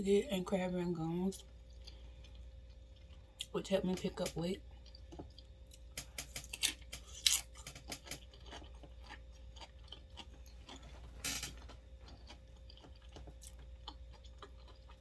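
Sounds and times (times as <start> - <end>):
chewing crunchy chips: 1.4 - 15.0.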